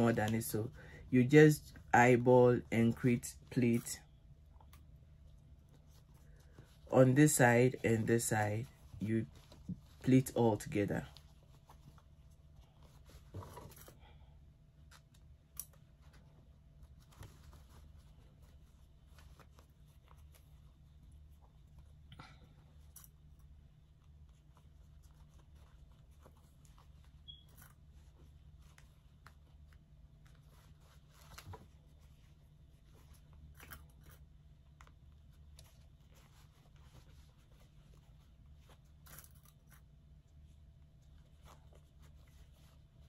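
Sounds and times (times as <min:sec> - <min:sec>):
low room hum: 0:00.0 - 0:43.0.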